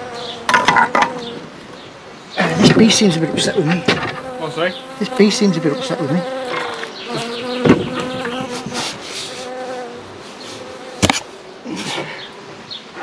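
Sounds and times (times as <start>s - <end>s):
bee buzzing: 0.0s - 11.6s.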